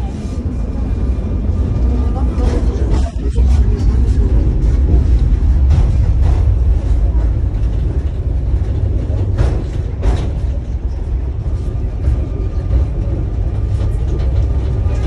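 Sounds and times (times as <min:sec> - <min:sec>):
tram wheels rumbling: 0:00.0 - 0:15.0.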